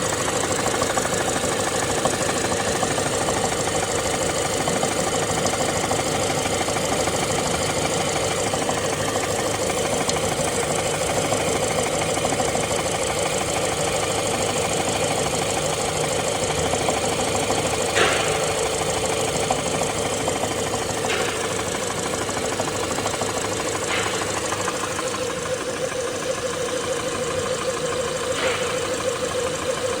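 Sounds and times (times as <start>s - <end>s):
car engine running: 0.0s - 30.0s
fast continuous knocking: 0.0s - 30.0s.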